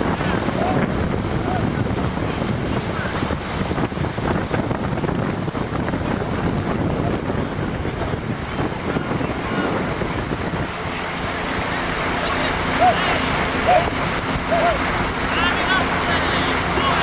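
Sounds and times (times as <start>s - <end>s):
water rushing past boat: 0.0s - 17.0s
wind buffeting microphone: 0.0s - 17.0s.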